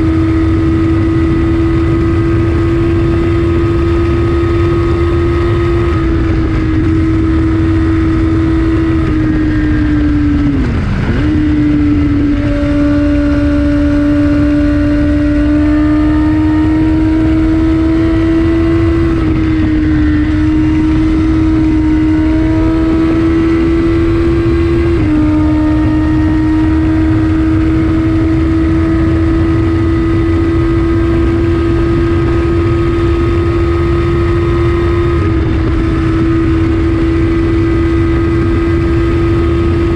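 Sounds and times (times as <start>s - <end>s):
motorcycle engine at high revs: 0.0s - 39.9s
wind rushing: 0.0s - 39.9s.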